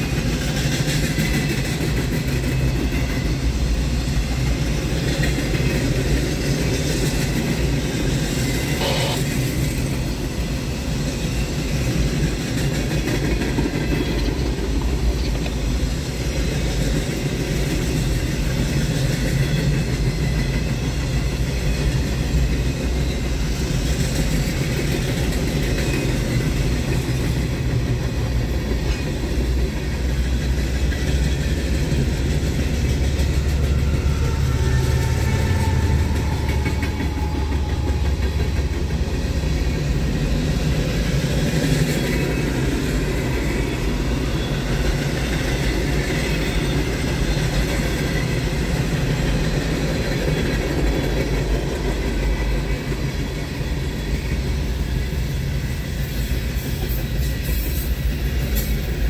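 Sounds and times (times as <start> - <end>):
diesel locomotive engine: 0.0 - 59.0
railcars rumbling on rails: 0.0 - 59.0.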